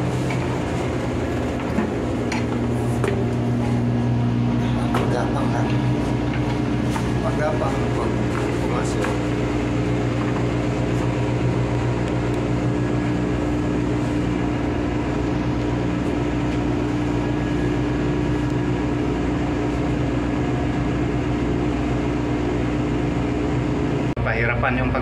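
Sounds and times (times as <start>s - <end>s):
deep machinery hum: 0.0s - 25.0s
engine room machinery drone: 0.0s - 25.0s.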